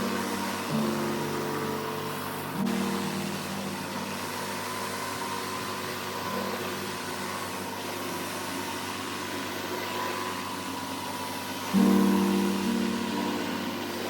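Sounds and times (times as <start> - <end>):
pressure washer running: 0.0 - 14.0.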